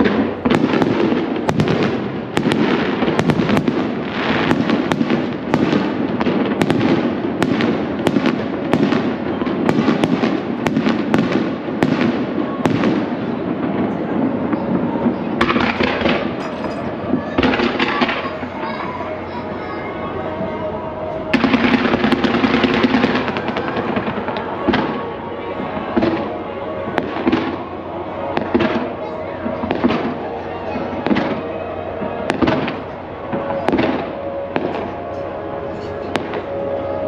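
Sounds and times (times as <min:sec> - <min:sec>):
fireworks crackle: 0:00.0 - 0:37.0.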